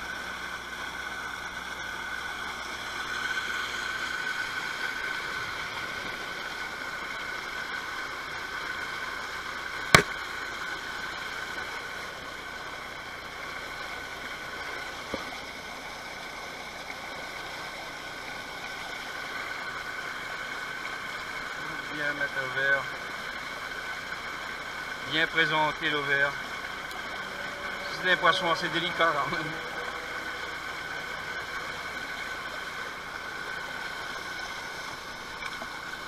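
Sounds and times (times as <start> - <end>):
flowing river water: 0.0 - 36.0.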